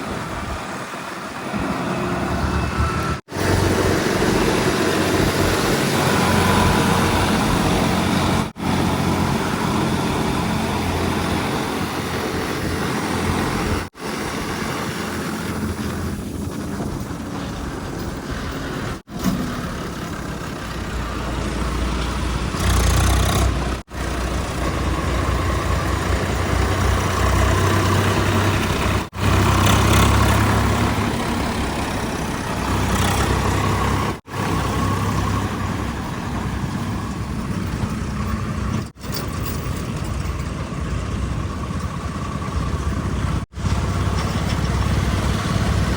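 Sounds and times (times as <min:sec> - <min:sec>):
heavy diesel engines rumbling: 0:00.0 - 0:45.9.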